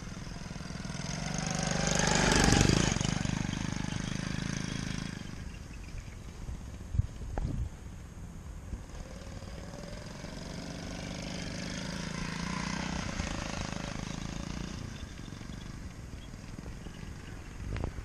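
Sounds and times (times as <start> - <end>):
small gas engine passing: 0.0 - 18.0.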